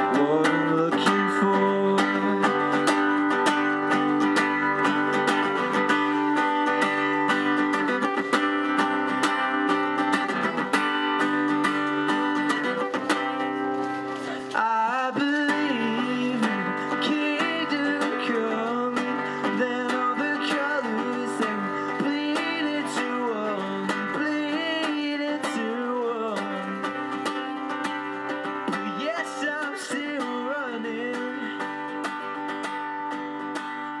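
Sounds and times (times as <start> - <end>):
song with acoustic guitar: 0.0 - 34.0.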